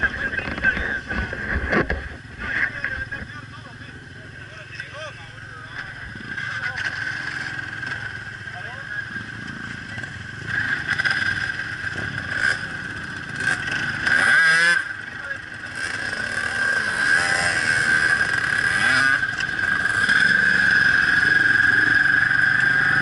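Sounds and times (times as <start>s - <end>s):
quad bike and dirt bike engines: 0.0s - 23.0s.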